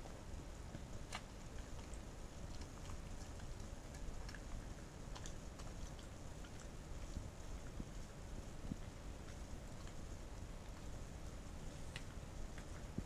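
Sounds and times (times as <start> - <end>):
low background rumble: 0.0 - 13.0
dog licking and nosing floor: 0.7 - 13.0.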